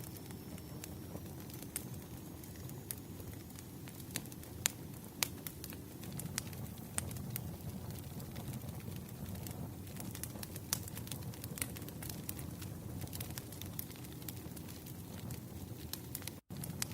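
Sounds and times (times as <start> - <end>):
fire crackling and popping: 0.0 - 16.9
fire rumbling: 0.0 - 16.9.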